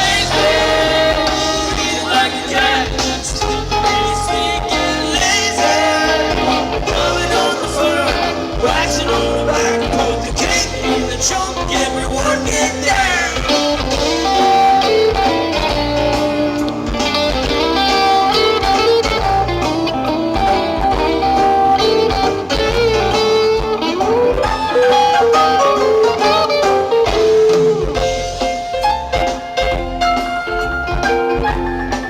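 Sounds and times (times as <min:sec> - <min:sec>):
bass line: 0:00.0 - 0:32.0.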